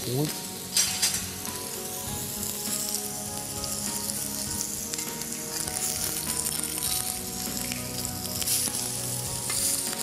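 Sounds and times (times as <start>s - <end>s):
zucchini sizzling in pan: 0.0s - 10.0s.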